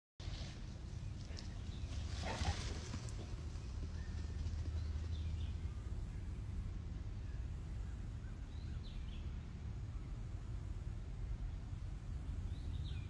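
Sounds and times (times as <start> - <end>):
steady low rumble: 0.2 - 13.0.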